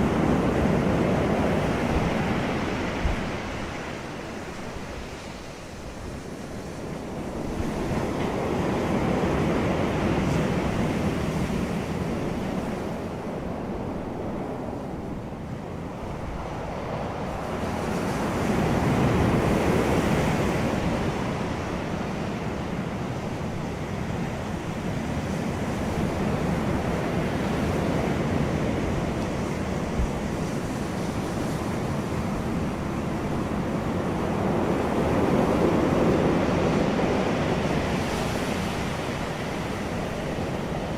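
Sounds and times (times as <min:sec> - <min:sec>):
wind blowing across microphone: 0:00.0 - 0:40.9.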